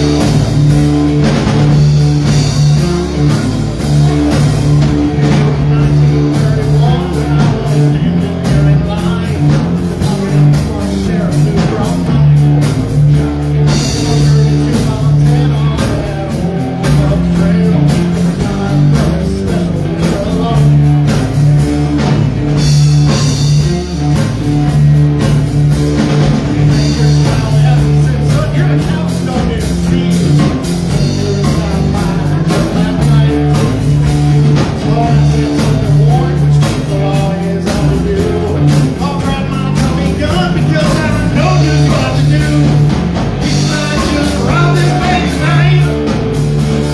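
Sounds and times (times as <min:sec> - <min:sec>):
bass: 0:00.0 - 0:46.9
drum kit: 0:00.0 - 0:46.9
electric guitar: 0:00.0 - 0:46.9.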